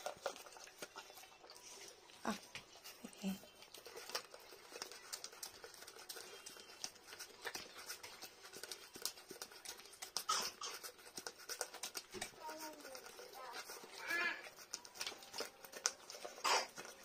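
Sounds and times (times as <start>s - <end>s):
dog licking: 0.0s - 17.0s.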